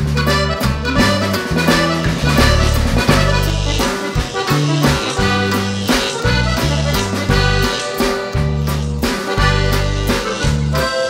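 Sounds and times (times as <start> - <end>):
accordion-like melody: 0.0 - 11.0
bass line: 0.0 - 11.0
steady beat: 0.7 - 11.0.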